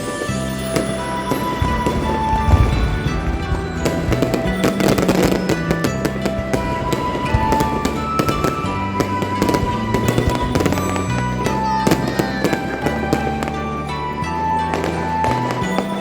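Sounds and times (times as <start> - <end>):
fireworks bursting and crackling: 0.0 - 16.0
music with bass and melody: 0.0 - 16.0.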